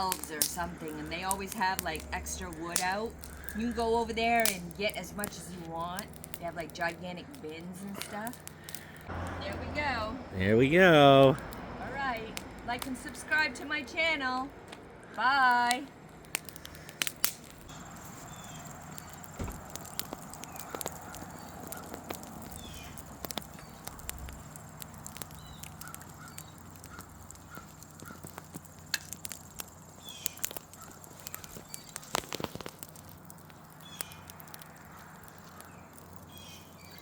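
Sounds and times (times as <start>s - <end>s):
small birds chirping: 0.0s - 9.1s, 15.0s - 37.0s
wood fire crackling and popping: 0.0s - 37.0s.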